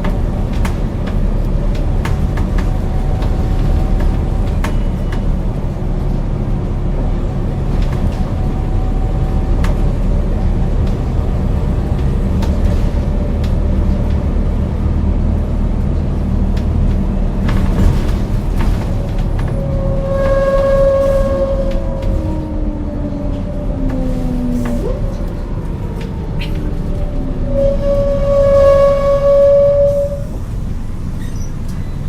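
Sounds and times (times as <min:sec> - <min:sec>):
diesel bus engine running: 0:00.0 - 0:20.0, 0:21.0 - 0:27.6, 0:29.9 - 0:32.0.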